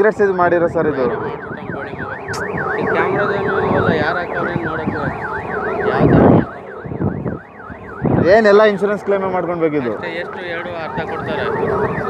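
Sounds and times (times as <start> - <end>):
electronic siren wailing: 0.0 - 12.0
loud rush of noise: 0.5 - 12.0.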